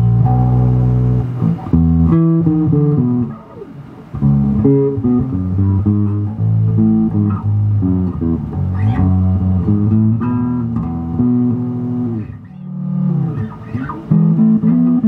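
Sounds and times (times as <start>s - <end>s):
electric bass guitar notes: 0.0s - 15.0s.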